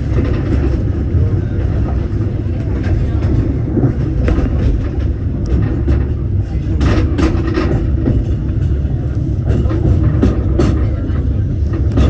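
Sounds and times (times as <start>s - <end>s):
track clicks and clanks: 0.0s - 12.0s
train rumbling on track: 0.0s - 12.0s.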